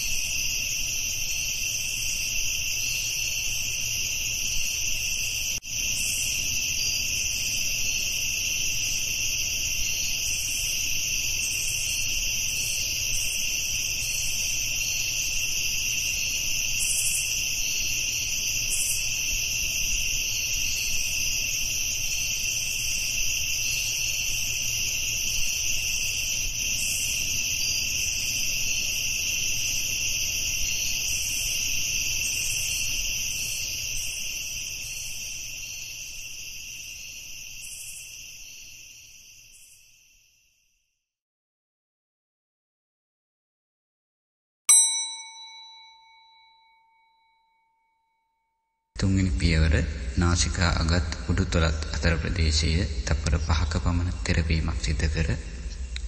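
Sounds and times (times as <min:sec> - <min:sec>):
crickets trilling: 0:00.0 - 0:40.9, 0:49.0 - 0:56.0.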